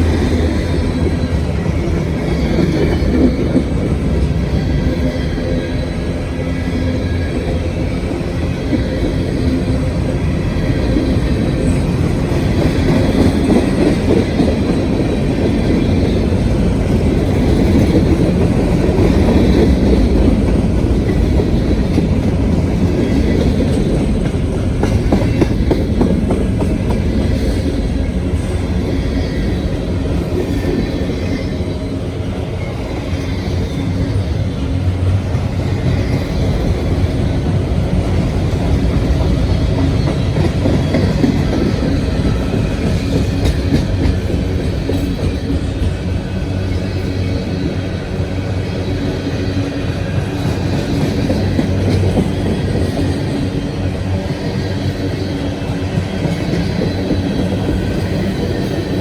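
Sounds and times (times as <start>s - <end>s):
freight train rumbling past: 0.0s - 59.0s
train wheels clicking: 0.0s - 59.0s.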